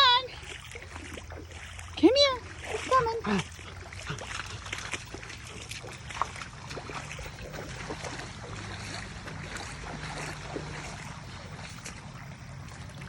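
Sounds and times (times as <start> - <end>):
lake water sloshing: 0.0 - 13.0
low steady hum: 0.0 - 13.0
small splashes: 0.0 - 13.0.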